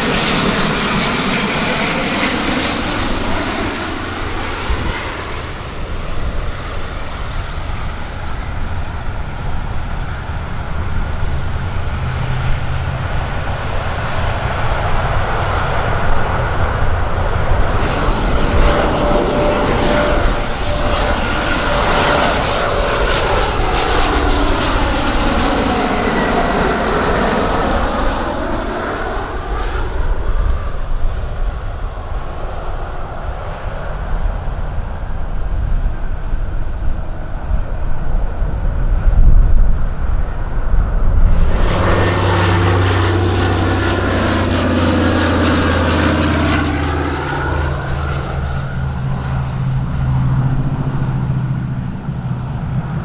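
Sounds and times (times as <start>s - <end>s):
aircraft engines droning overhead: 0.0s - 53.0s.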